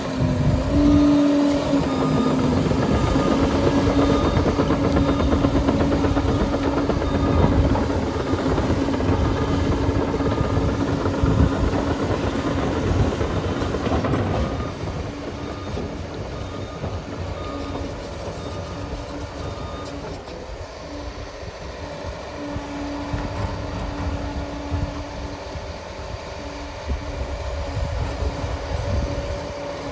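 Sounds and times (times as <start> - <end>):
diesel engine drone: 0.0 - 29.9.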